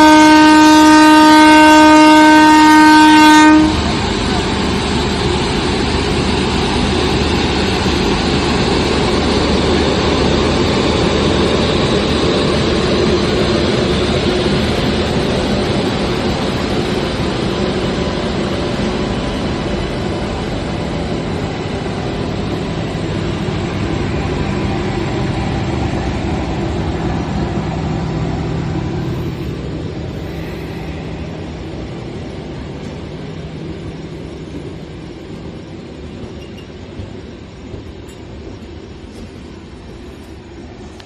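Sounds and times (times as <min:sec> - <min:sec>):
train rumbling: 0:00.0 - 0:41.0.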